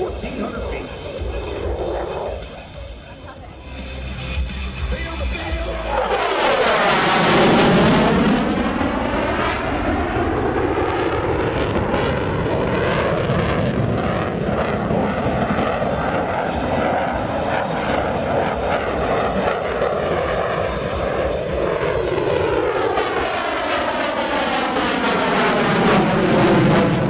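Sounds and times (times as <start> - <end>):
fighter jet engine: 0.0 - 27.0.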